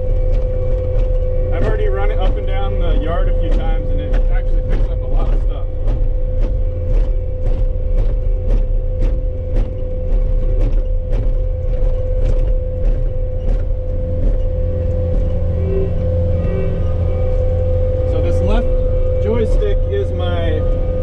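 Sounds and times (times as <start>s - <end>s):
diesel engine running: 0.0s - 21.0s
engine whine: 0.0s - 21.0s.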